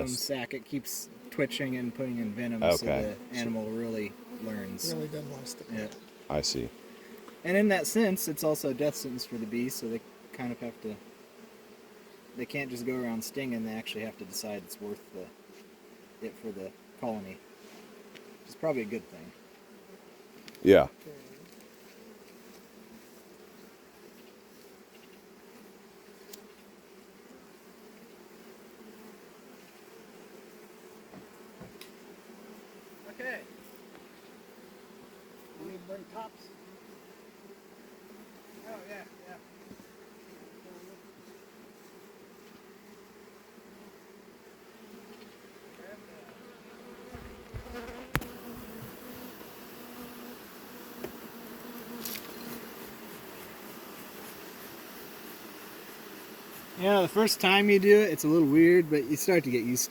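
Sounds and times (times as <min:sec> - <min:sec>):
bees buzzing: 0:00.0 - 0:20.5, 0:21.5 - 0:59.9.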